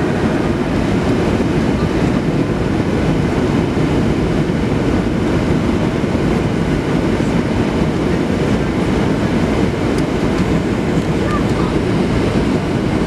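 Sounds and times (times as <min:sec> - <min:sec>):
jet engines rumbling: 0:00.0 - 0:13.0
rushing airflow: 0:00.0 - 0:13.0.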